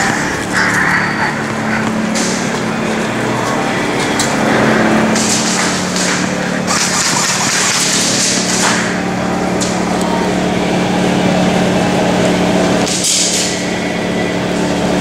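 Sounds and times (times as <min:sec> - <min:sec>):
continuous rushing noise: 0:00.0 - 0:15.0
mechanical hum: 0:00.0 - 0:15.0.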